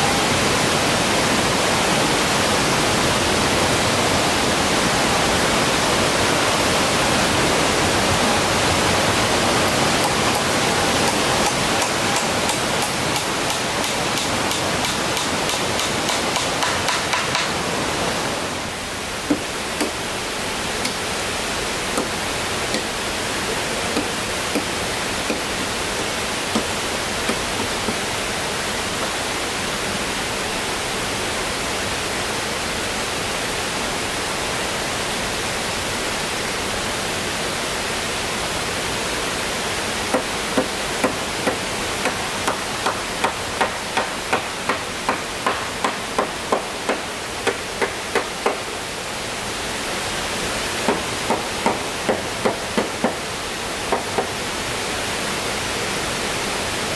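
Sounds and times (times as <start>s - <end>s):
steady rushing hiss: 0.0s - 56.9s.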